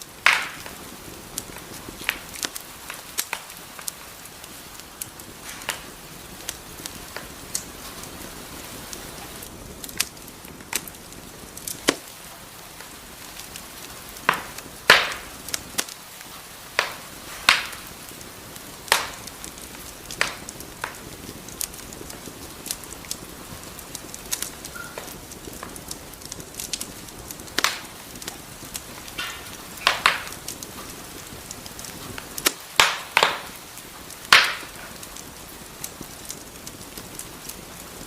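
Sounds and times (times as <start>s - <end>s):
steady low hiss: 0.0s - 38.0s
wood fire crackling: 0.0s - 38.0s.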